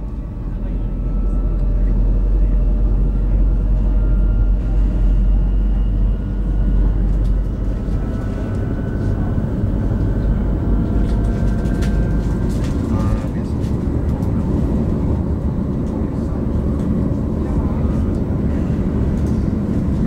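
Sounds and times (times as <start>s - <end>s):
wheels rumbling on rails: 0.0s - 20.0s.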